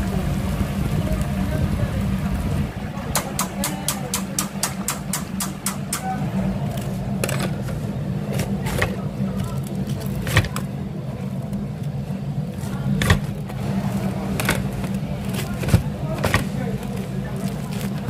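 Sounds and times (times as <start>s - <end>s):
kitchen equipment humming: 0.0s - 18.0s.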